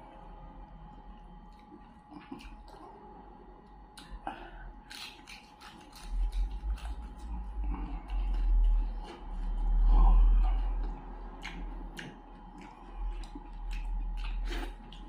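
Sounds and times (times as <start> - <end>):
person chewing wetly: 1.1 - 15.0.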